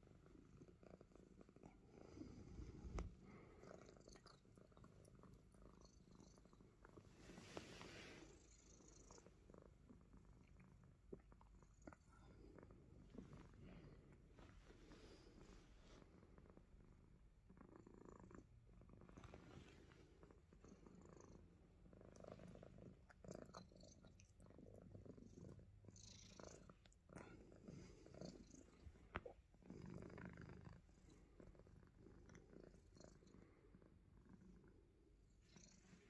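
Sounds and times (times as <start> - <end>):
cat purring faintly: 0.0 - 36.0.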